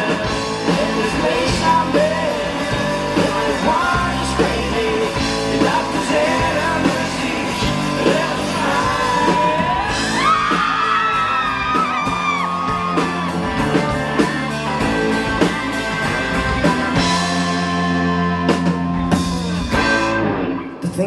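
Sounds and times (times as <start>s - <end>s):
steady drum beat: 0.0s - 20.2s
bass guitar: 0.0s - 21.0s
electric guitar: 0.0s - 21.0s
live rock band playing: 0.0s - 21.0s.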